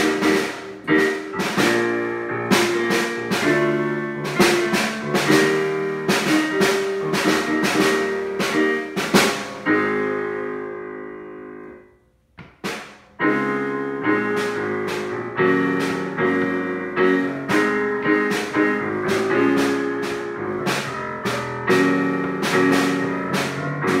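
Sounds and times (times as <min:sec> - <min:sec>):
drum kit and cymbal hits: 0:00.0 - 0:09.8, 0:12.4 - 0:24.0
digital keyboard piano chords: 0:00.0 - 0:24.0.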